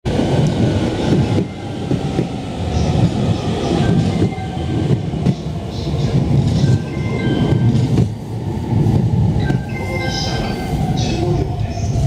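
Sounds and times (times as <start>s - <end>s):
electric train low rumble: 0.1s - 12.0s.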